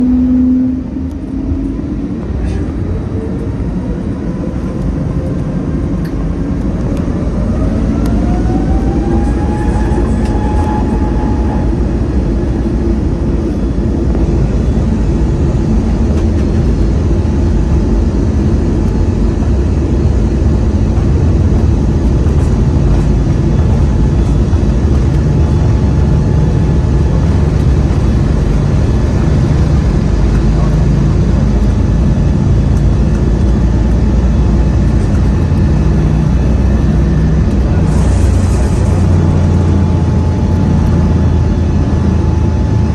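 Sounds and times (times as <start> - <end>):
deep rumble: 0.0 - 42.9
jet engines whining: 0.0 - 42.9.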